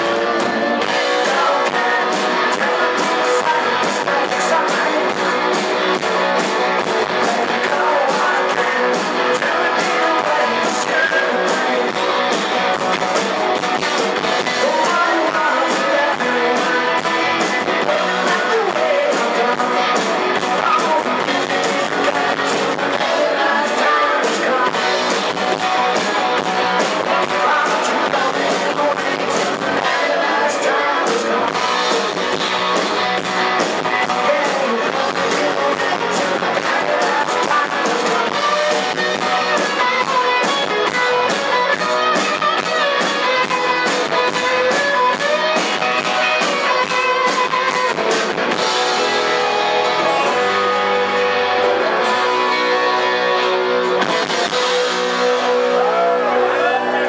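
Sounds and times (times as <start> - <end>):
drum kit beat: 0.0 - 55.7
bass guitar: 0.0 - 57.0
electric guitars: 0.0 - 57.0
person singing: 0.0 - 57.0.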